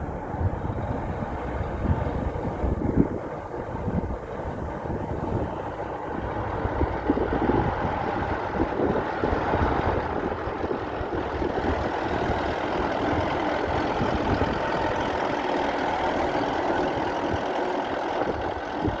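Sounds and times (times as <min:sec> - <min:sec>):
pile driver engine running: 0:00.0 - 0:19.0.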